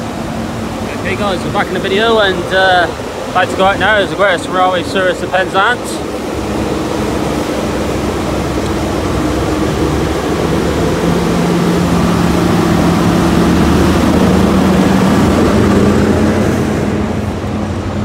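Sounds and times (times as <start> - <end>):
train diesel engine under power: 0.0 - 18.0.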